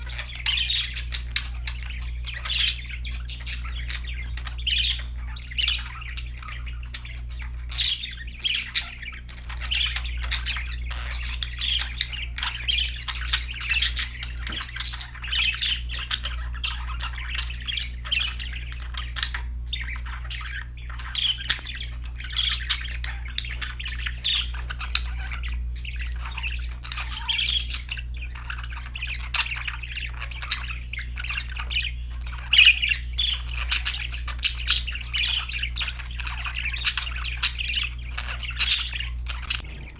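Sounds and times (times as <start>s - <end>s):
budgerigars chattering: 0.0s - 39.9s
steady low hum: 0.0s - 39.9s.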